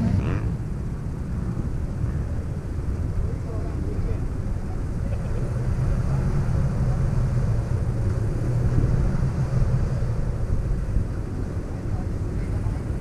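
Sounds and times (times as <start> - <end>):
truck engine running low: 0.0 - 13.0.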